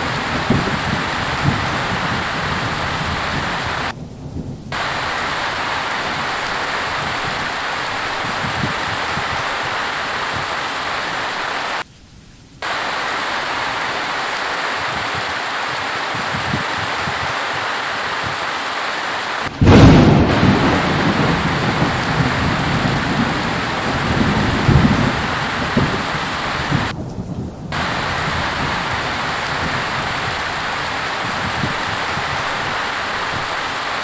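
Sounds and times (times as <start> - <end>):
thunder crack and rumble: 0.0 - 11.5, 14.6 - 18.5, 19.4 - 34.0
heavy rain hissing: 0.0 - 34.0.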